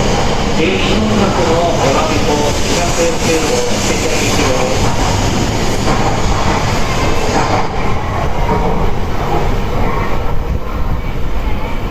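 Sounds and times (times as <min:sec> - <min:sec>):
train rumble and rush: 0:00.0 - 0:11.9.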